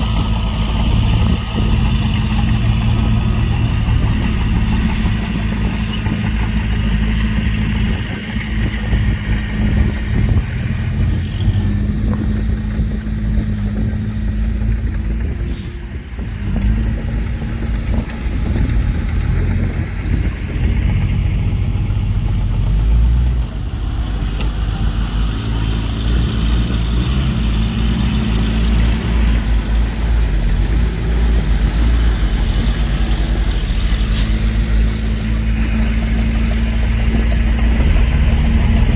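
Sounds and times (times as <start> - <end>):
heavy diesel engines rumbling: 0.0 - 38.9.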